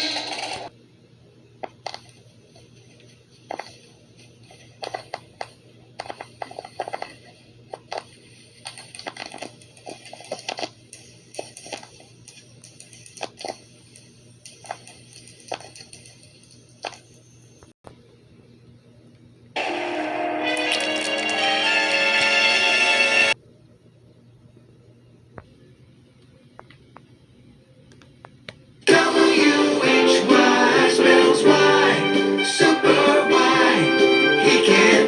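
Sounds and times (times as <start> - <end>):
faint steady hum: 0.0 - 20.5, 21.8 - 35.0.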